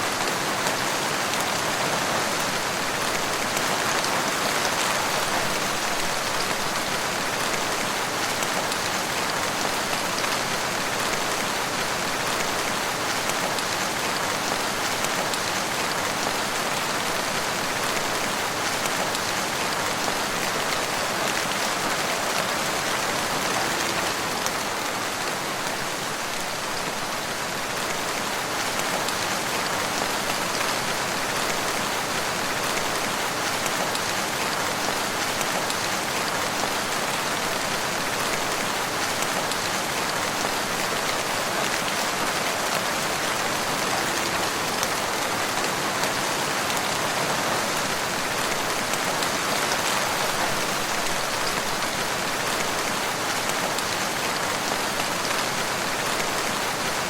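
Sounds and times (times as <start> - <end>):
rain pattering on foliage: 0.0 - 57.0.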